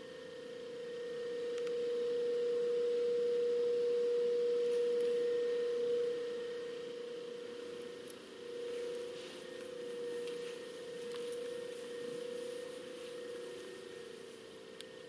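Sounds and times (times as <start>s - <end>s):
steady single-pitched tone: 0.0s - 15.0s.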